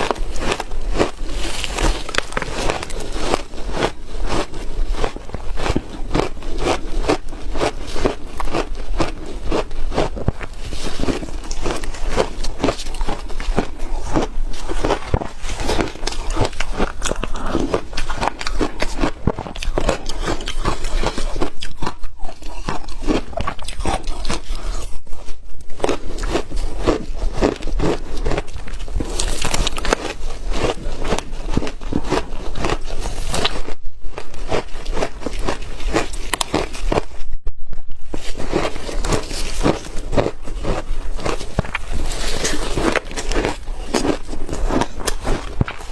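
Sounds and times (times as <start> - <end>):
ice being crunched and chewed: 0.0 - 37.3, 38.0 - 45.9.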